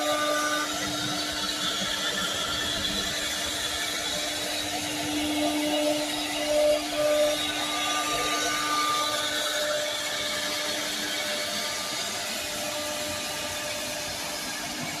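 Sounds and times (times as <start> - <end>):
router spindle running: 0.0 - 15.0.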